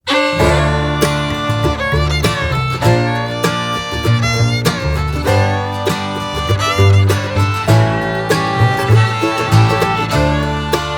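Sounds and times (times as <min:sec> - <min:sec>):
fiddle: 0:00.0 - 0:10.9
guitar: 0:00.0 - 0:10.9.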